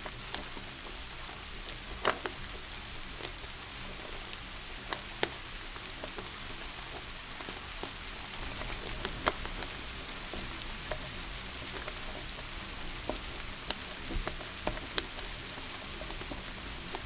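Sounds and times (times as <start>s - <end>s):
rain hissing: 0.0s - 17.0s
wood fire crackling and popping: 0.0s - 17.0s.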